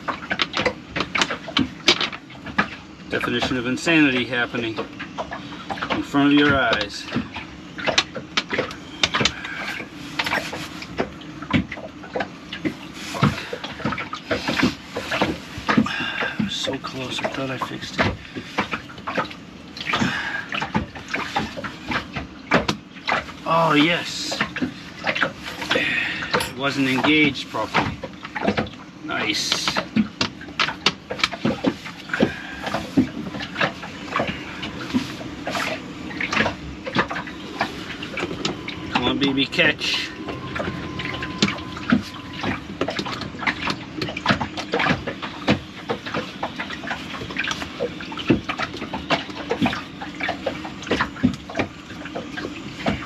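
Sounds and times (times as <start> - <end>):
pump parts clicking and scraping: 0.0 - 53.0.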